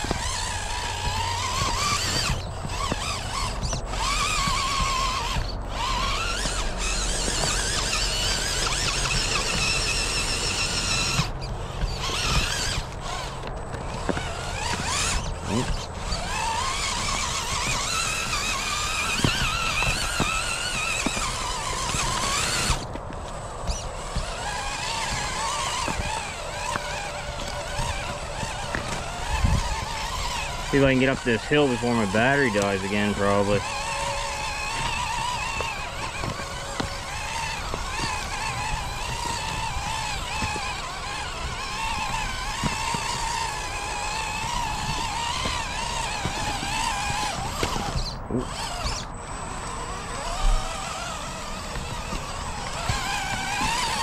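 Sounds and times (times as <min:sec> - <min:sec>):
electric motor and gearbox whining: 0:00.0 - 0:54.0.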